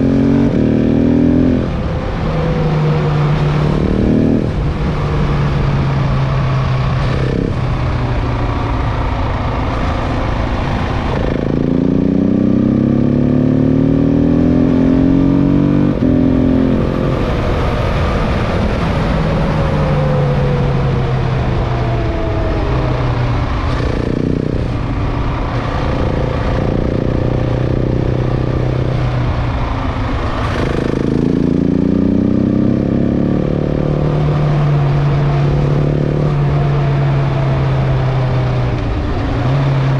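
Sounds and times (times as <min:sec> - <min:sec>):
motorcycle engine accelerating: 0:00.0 - 0:39.9
wind and tyre noise: 0:00.0 - 0:39.9.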